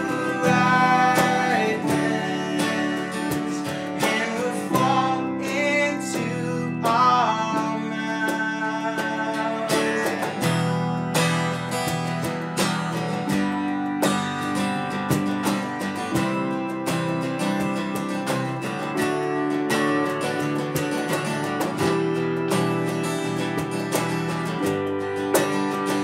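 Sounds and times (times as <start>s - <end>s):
acoustic guitar strumming: 0.0s - 26.0s
cajon beats: 0.0s - 26.0s
electric guitar: 0.0s - 26.0s
electric keyboard: 0.0s - 26.0s.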